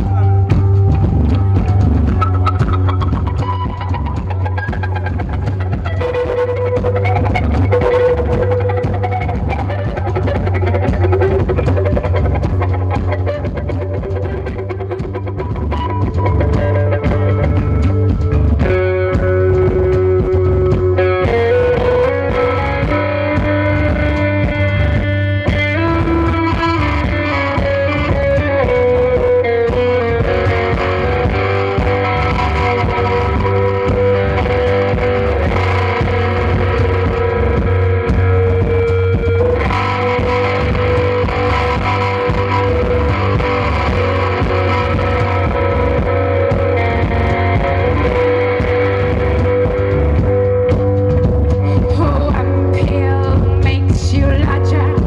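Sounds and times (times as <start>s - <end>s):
bass line: 0.0s - 55.0s
distorted electric guitar: 0.0s - 55.0s.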